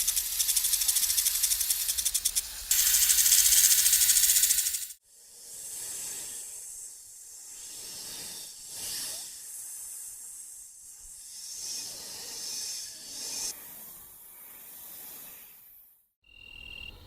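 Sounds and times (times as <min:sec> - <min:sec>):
snakes hissing: 0:00.0 - 0:15.6.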